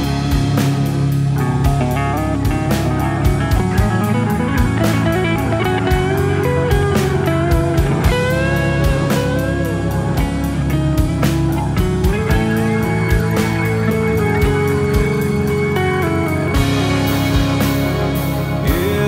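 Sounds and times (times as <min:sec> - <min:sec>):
bass: 0:00.0 - 0:19.0
guitar playing: 0:00.0 - 0:19.0
steady drum beat: 0:00.0 - 0:19.0.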